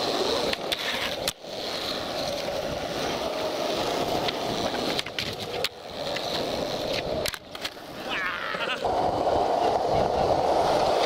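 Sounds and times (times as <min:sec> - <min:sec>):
skateboard wheels rolling on concrete: 0:00.0 - 0:11.0.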